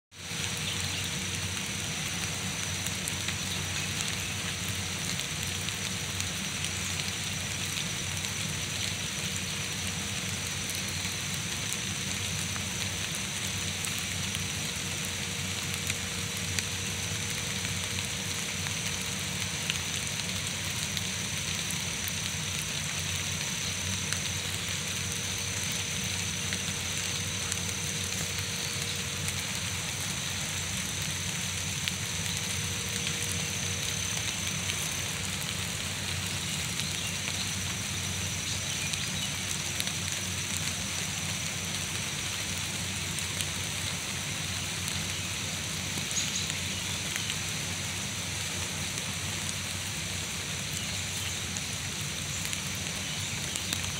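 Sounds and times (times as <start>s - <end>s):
rain on forest: 0.1s - 53.9s.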